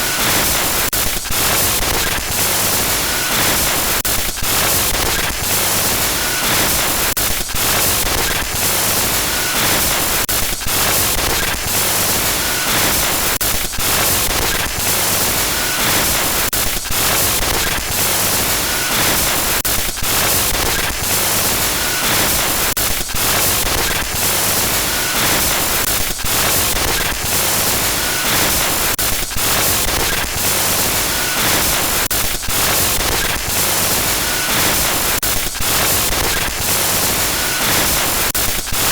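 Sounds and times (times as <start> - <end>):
glitchy static hiss: 0.0 - 38.9.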